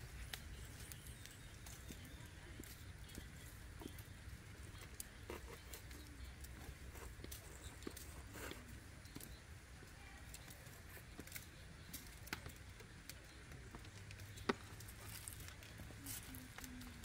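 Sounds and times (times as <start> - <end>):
faint clicks and rustles: 0.0 - 17.0.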